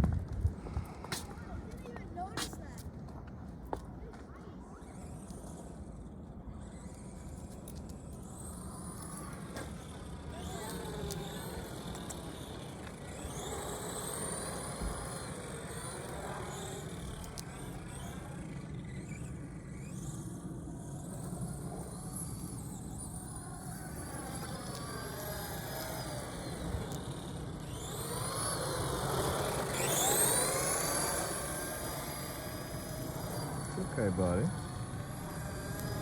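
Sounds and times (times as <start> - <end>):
rc car electric motor whining: 4.6 - 36.0.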